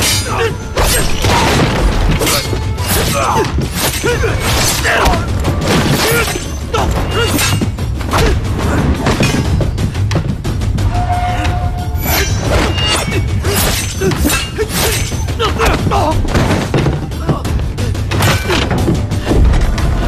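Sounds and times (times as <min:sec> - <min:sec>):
dramatic orchestral score: 0:00.0 - 0:20.0.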